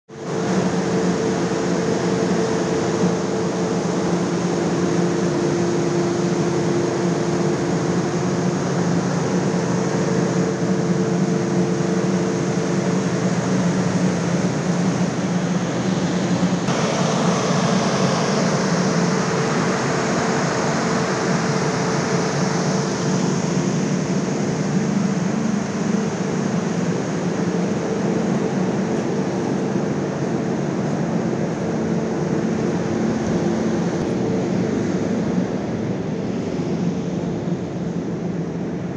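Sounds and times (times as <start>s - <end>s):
machinery humming: 0.1s - 38.9s.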